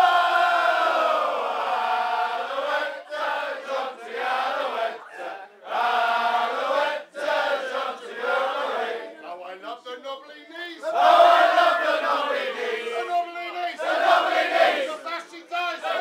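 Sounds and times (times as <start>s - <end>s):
crowd chanting in unison: 0.0s - 9.2s, 10.6s - 16.0s.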